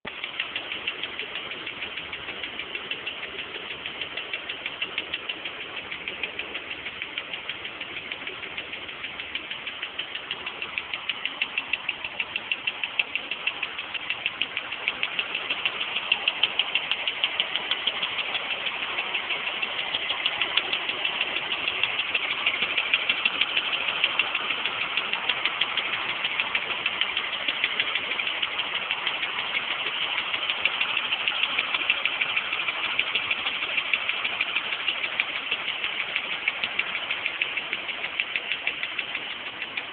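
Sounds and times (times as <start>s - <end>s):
car engine idling: 0.0s - 39.9s
fast regular engine ticking: 0.0s - 39.9s.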